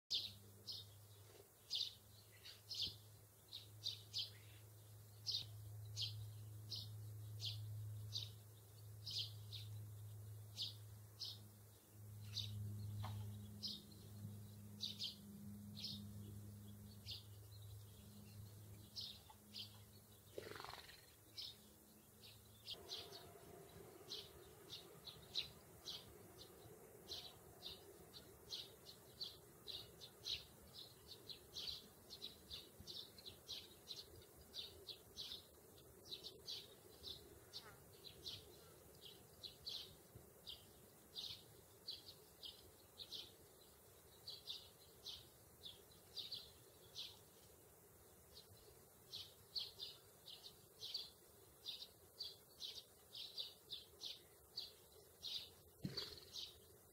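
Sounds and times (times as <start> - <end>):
low steady hum: 0.1 - 56.9
songbird high chirps: 0.1 - 56.9.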